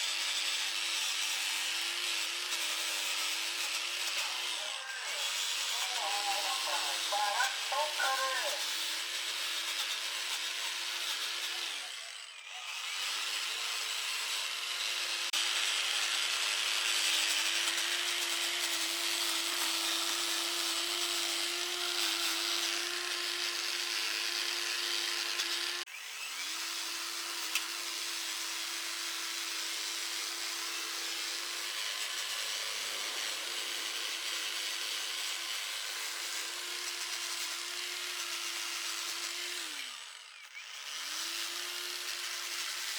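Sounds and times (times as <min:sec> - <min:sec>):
electric power tool grinding: 0:00.0 - 0:42.9.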